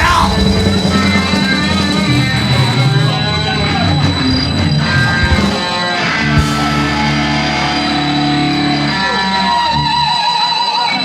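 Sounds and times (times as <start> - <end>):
steady high whine: 0.0 - 10.2
distorted electric guitar and bass: 0.0 - 11.0.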